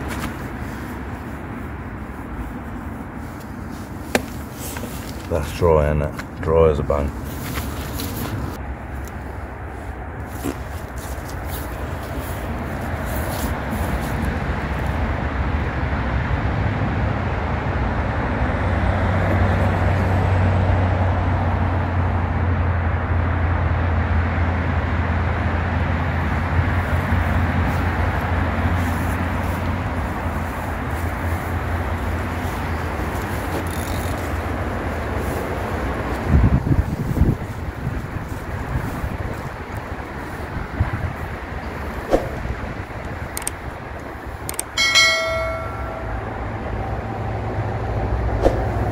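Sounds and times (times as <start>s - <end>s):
busy road traffic: 0.0s - 48.9s.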